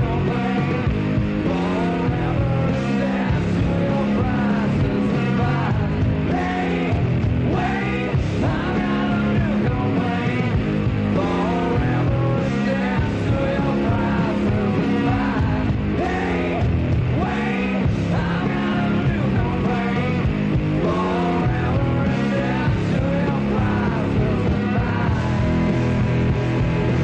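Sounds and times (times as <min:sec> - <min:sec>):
rock song with singing: 0:00.0 - 0:27.0.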